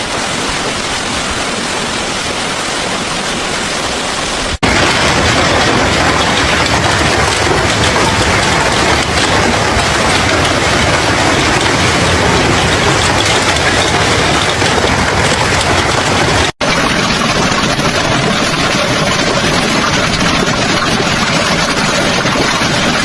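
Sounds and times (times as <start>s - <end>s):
heavy rain rushing: 0.0s - 23.0s.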